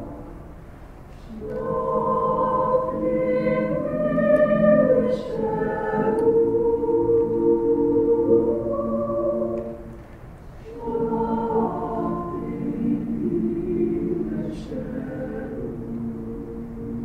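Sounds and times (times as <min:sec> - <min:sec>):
choir singing unaccompanied: 0:00.0 - 0:00.5, 0:01.1 - 0:17.0.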